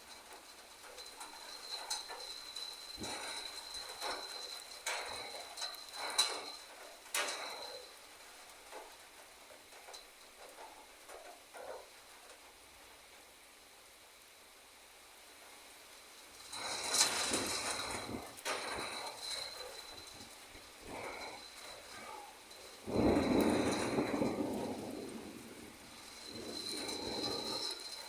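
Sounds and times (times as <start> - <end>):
heavy rain pouring: 0.0 - 13.0, 16.0 - 28.0.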